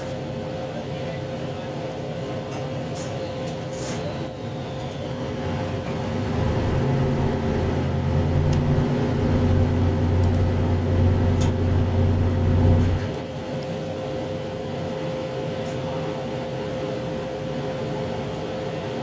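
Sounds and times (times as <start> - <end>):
train diesel engine droning: 0.0 - 19.0.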